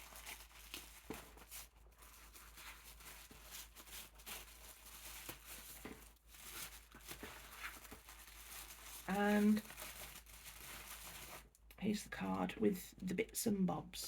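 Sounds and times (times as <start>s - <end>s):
paper and packaging rustling: 0.0s - 11.7s.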